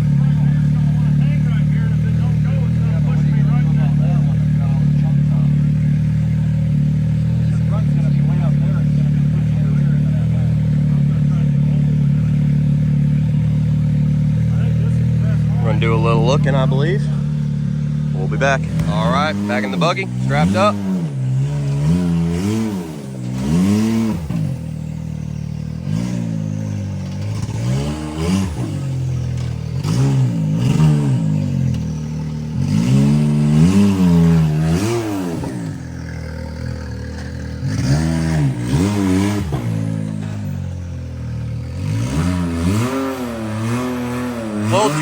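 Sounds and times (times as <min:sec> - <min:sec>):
clatter: 0:00.0 - 0:45.0
rock buggy engine revving: 0:00.0 - 0:45.0.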